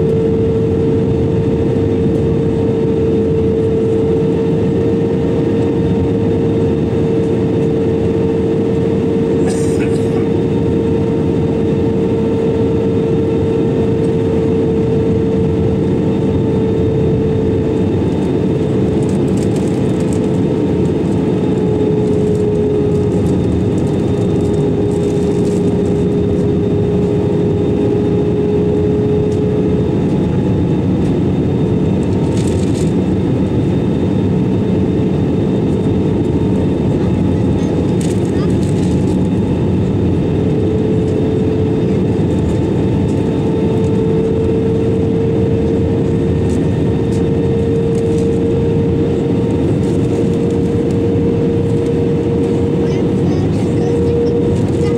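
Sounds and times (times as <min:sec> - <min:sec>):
aircraft cabin engine rush: 0:00.0 - 0:54.9
deeper engine tone: 0:00.0 - 0:54.9.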